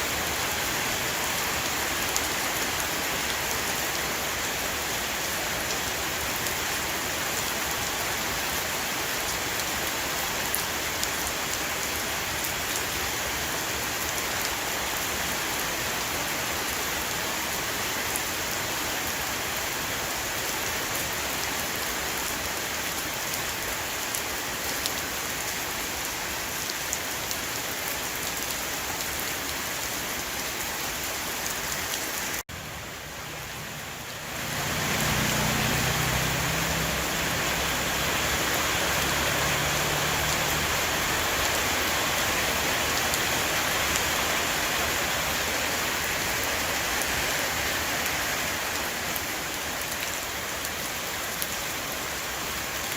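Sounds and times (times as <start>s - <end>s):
heavy rain on a roof: 0.0s - 52.9s.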